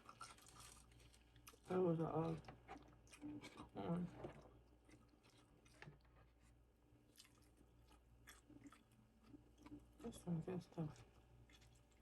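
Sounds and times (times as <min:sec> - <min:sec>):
faint chewing of food: 0:00.0 - 0:12.0.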